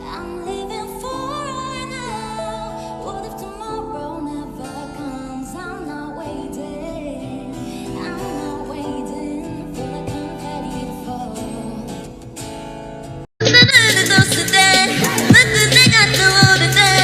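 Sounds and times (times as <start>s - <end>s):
pop song with singing: 0.0s - 12.6s, 13.4s - 17.0s.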